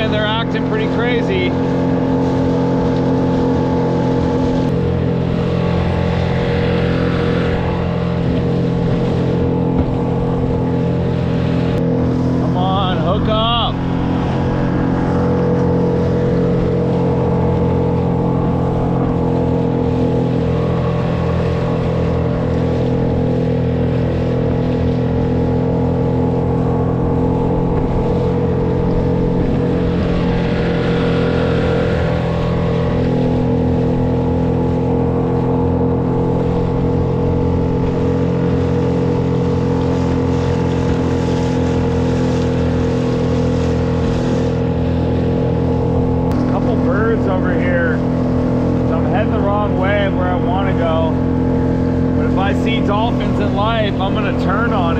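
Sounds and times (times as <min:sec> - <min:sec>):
outboard motor running: 0:00.0 - 0:54.9
water rushing along hull: 0:00.0 - 0:54.9.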